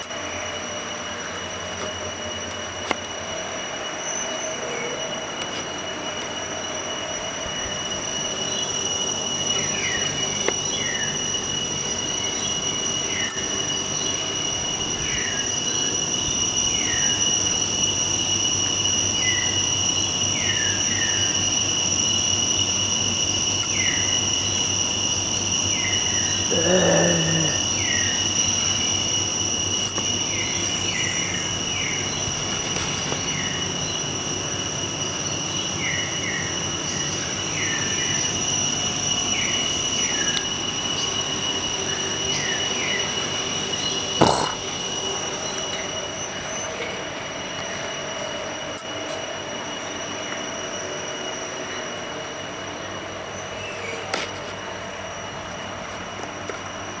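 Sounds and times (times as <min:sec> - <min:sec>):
high-pitched whine: 0:00.0 - 0:57.0.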